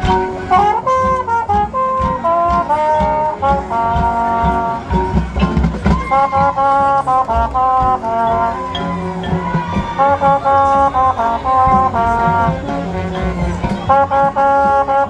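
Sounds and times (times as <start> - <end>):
low drum hits: 0.0 - 14.8
brass chords: 0.0 - 15.0.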